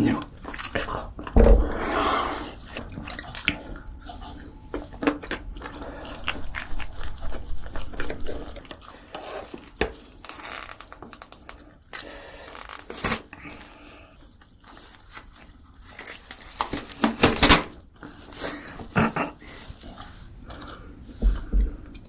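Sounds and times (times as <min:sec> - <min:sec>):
wet chewing and smacking: 0:00.0 - 0:12.0, 0:13.0 - 0:17.0, 0:17.8 - 0:22.0.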